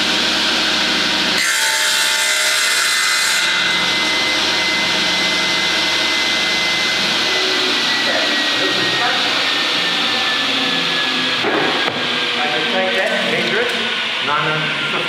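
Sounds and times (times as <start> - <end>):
saw running with high whine: 0.0 - 15.0
saw blade cutting wood: 1.4 - 13.9.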